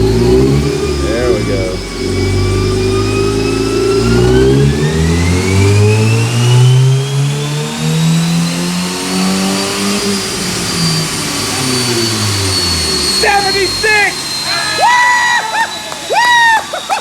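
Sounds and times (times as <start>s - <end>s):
car engine revving: 0.0s - 16.8s
high-pitched whine: 0.0s - 17.0s.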